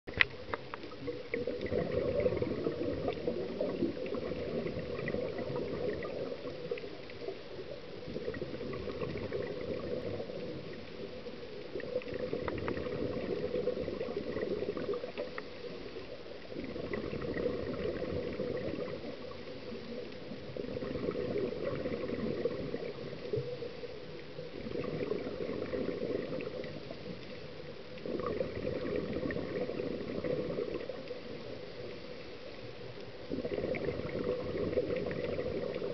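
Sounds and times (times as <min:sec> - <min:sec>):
underwater regulator bubbling: 0:00.1 - 0:35.9.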